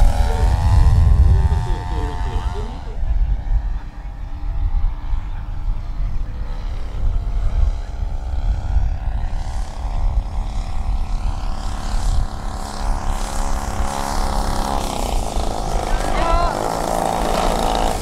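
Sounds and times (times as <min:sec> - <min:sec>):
low wind rumble on microphone: 0:00.0 - 0:18.0
model aircraft engine droning: 0:00.0 - 0:18.0.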